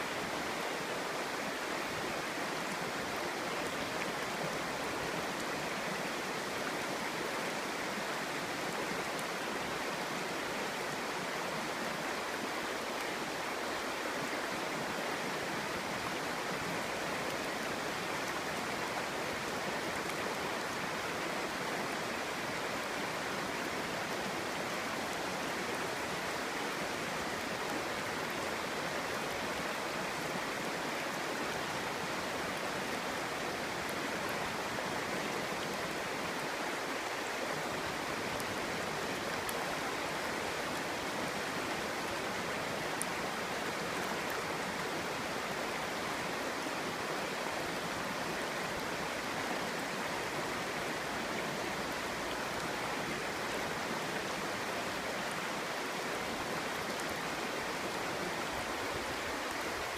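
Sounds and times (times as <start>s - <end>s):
stream burbling over rocks: 0.0s - 59.9s.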